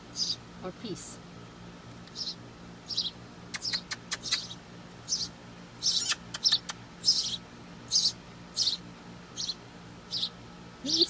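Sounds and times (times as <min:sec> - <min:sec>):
baby birds chirping: 0:00.0 - 0:00.9, 0:02.0 - 0:11.0.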